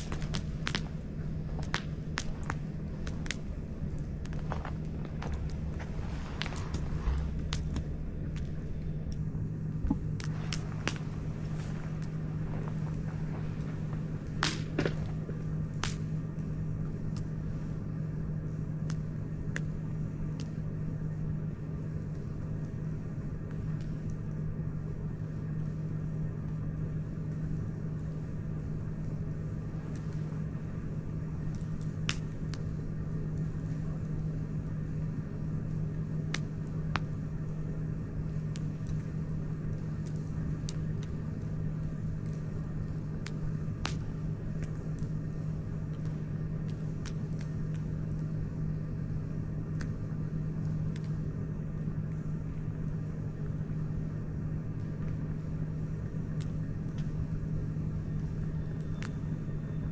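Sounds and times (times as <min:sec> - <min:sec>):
campfire crackling and popping: 0:00.0 - 0:59.9
steady low rumble: 0:00.0 - 0:59.9.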